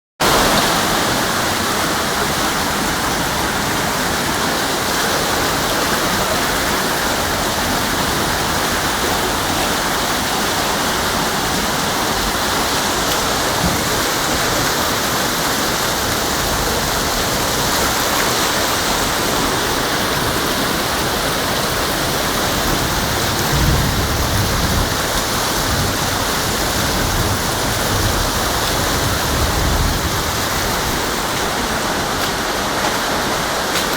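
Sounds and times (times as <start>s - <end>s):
floodwater rushing: 0.2s - 33.9s
heavy rain: 0.2s - 33.9s.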